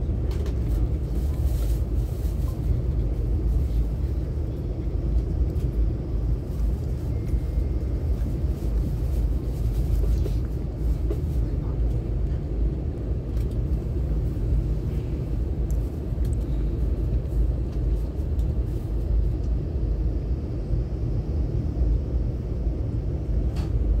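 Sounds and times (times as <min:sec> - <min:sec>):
train cabin low rumble: 0:00.0 - 0:24.0.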